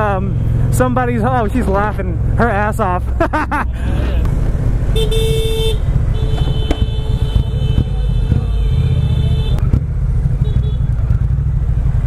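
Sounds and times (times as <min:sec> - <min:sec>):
motorcycle engine and wind rumble: 0:00.0 - 0:12.0.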